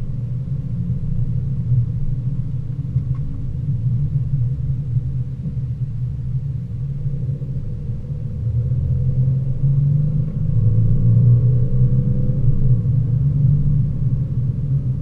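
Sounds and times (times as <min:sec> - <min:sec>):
car engine rumble from cabin: 0:00.0 - 0:15.0.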